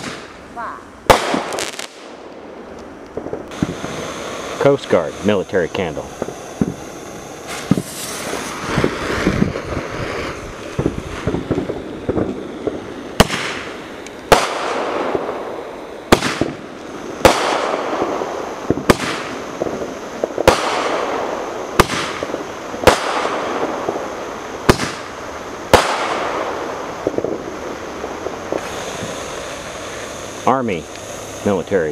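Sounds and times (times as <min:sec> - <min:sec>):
firework bangs: 0:00.0 - 0:31.9
firework hissing and crackling: 0:00.0 - 0:31.9.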